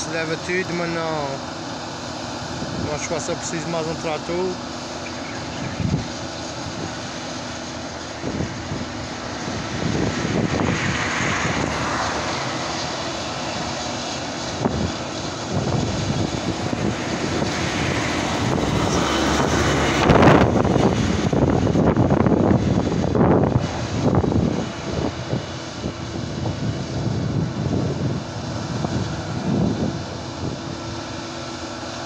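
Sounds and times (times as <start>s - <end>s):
distant harvester engine drone: 0.0s - 32.0s.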